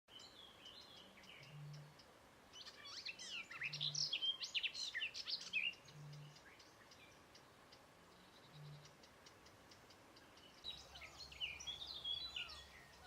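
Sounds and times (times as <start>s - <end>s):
songbirds singing: 0.1s - 13.0s.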